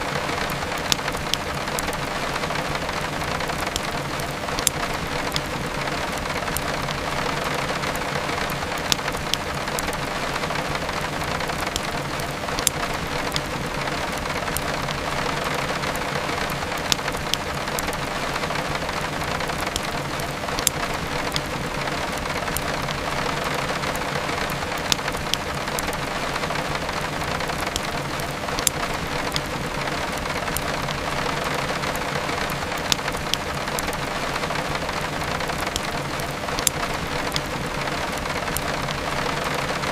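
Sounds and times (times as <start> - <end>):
heavy rain: 0.0 - 39.9
wood fire crackling: 0.0 - 39.9.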